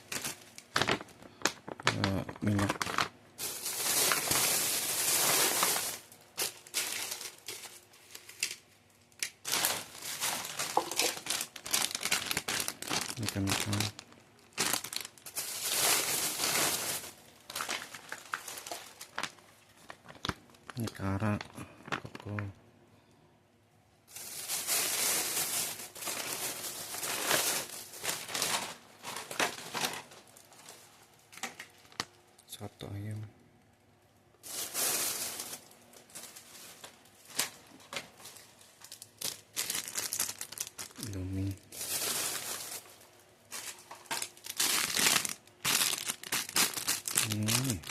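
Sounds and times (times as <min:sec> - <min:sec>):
plastic wrappers crinkling: 0:00.0 - 0:22.5, 0:24.1 - 0:32.3, 0:34.4 - 0:47.9.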